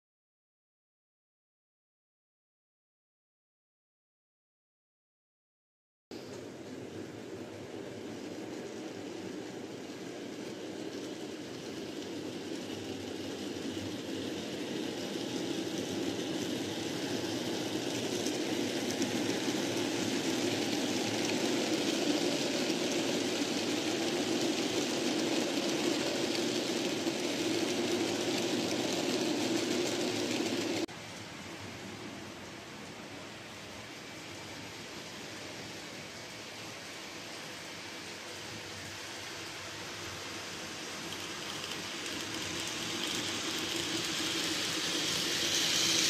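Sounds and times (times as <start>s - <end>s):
model train whirring and rumbling: 6.2s - 46.0s.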